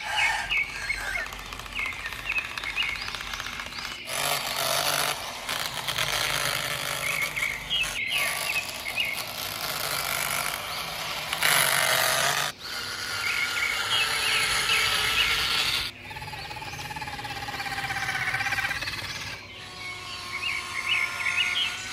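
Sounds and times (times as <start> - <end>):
birds chirping: 0.0 - 21.9
small electric motors whining: 0.0 - 21.9.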